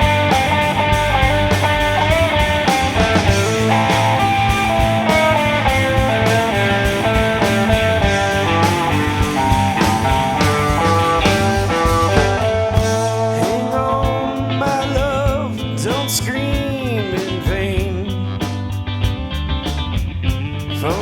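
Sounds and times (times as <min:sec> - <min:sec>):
bass: 0:00.0 - 0:21.0
drums: 0:00.0 - 0:21.0
electric guitar lines: 0:00.0 - 0:21.0.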